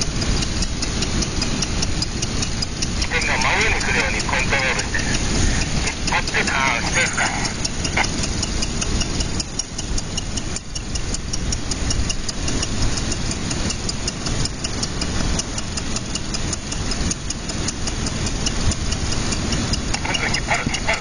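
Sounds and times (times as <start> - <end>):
even repeated ticking: 0.0 - 21.0.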